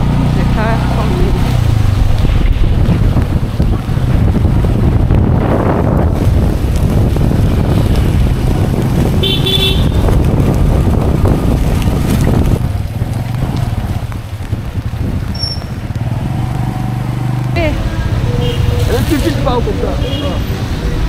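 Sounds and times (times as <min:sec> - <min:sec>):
motorcycle engine running: 0:00.0 - 0:20.2
wind rushing over microphone: 0:00.0 - 0:21.0.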